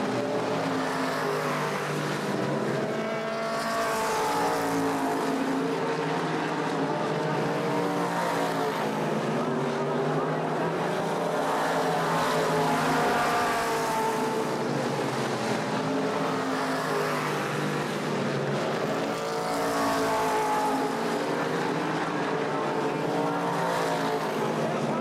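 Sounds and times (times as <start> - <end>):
stock car engines racing: 0.0 - 25.0.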